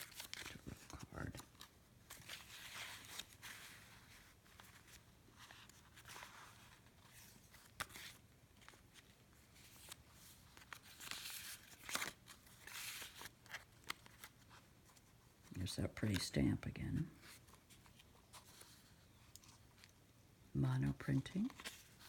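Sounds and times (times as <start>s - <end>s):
paper rustling and crinkling: 0.0s - 16.3s, 17.1s - 20.0s, 21.3s - 22.0s.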